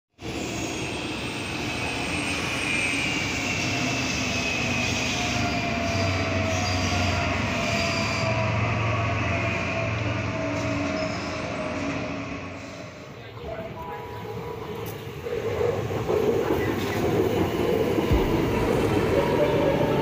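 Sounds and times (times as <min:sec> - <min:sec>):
electric train rumbling: 0:00.2 - 0:20.0
whining squeal: 0:00.2 - 0:20.0.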